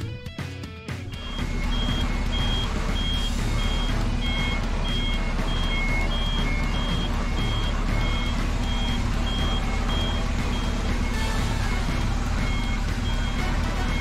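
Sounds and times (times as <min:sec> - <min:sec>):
truck engine rumble: 0:01.0 - 0:14.0
truck reversing alarm beeping: 0:01.1 - 0:14.0.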